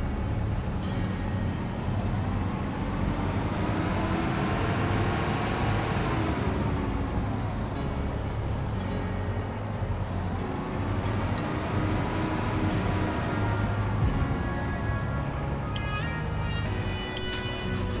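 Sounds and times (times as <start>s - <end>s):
paver diesel engine running: 0.0s - 18.0s.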